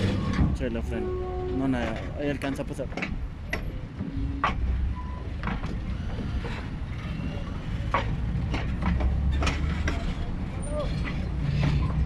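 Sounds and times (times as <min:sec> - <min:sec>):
train coaches rumbling: 0:00.0 - 0:12.0
wheels clacking on rails: 0:00.0 - 0:12.0.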